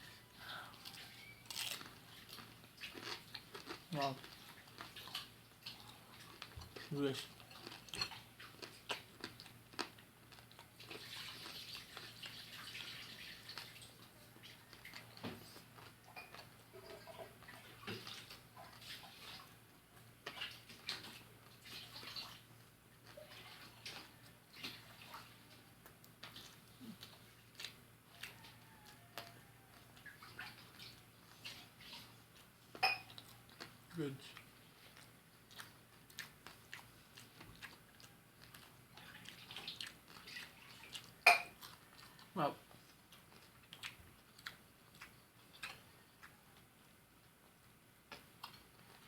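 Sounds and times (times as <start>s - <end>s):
chewing mouth sounds: 0.8s - 22.4s, 23.0s - 46.7s, 47.5s - 49.0s.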